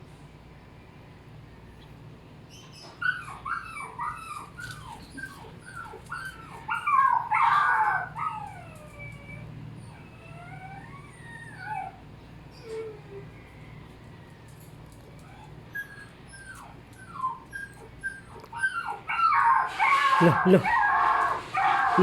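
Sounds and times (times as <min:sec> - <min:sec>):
dog whining: 0:02.5 - 0:13.8, 0:14.6 - 0:22.0.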